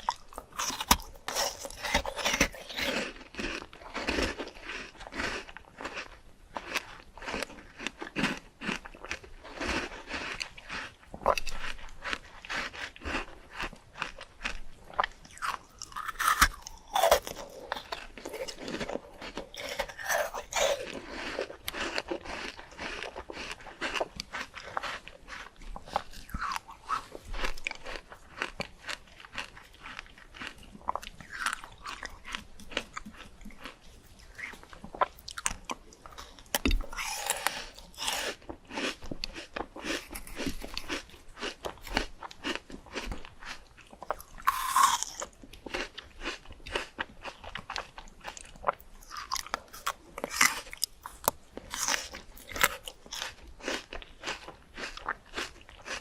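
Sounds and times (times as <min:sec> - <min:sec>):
person chewing crunchy fruit: 0:00.0 - 0:56.0.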